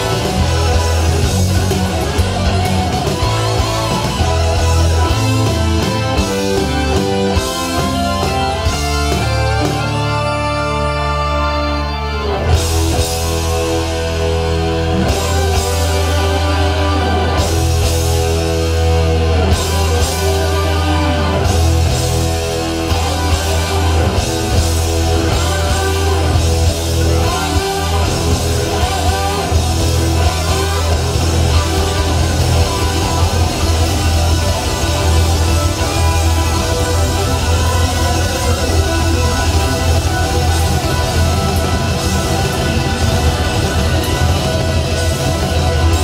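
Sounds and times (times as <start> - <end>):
rock music with guitar and bass: 0.0 - 46.0.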